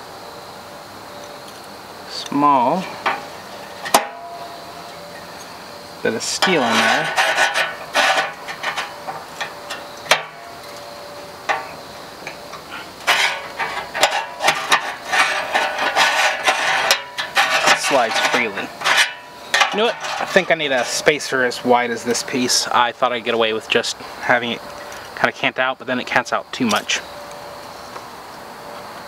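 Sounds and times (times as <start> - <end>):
background hiss: 0.0 - 29.0
high insect drone: 0.0 - 29.0.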